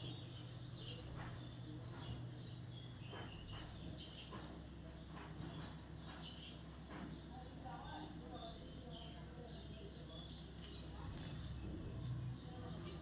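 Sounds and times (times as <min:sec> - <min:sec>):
parakeets chirping: 0:00.0 - 0:13.0
steady low hum: 0:00.0 - 0:13.0.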